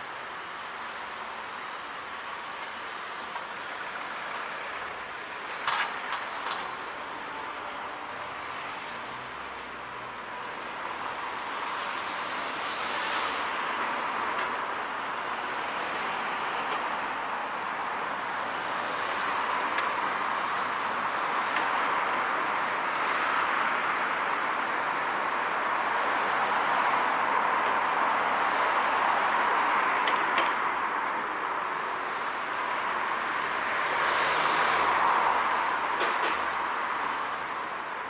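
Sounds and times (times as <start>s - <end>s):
road traffic passing: 0.0s - 38.0s.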